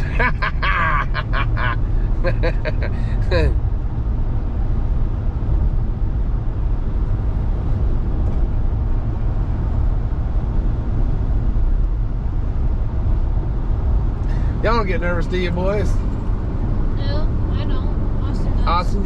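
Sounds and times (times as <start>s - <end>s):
road and wind noise in cab: 0.0s - 19.0s.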